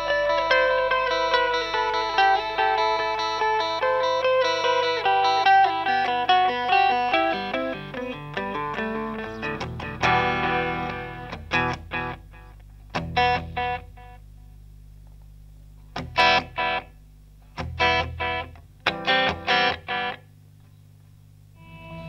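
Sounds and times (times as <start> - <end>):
electric guitar chord stabs: 0.0 - 14.5, 16.0 - 17.0, 17.6 - 20.3, 21.5 - 22.0
steady low hum: 0.0 - 22.0.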